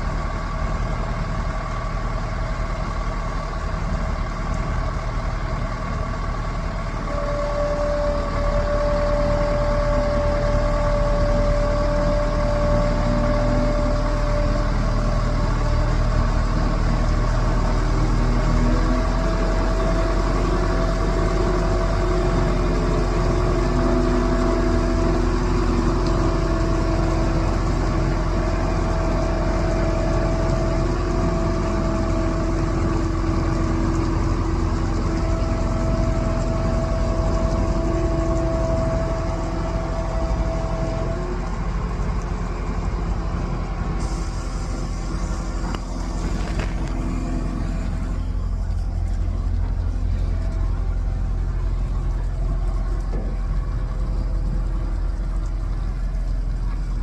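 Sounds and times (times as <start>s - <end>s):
diesel engine rumble: 0.0s - 57.0s
steady machine whine: 0.0s - 57.0s.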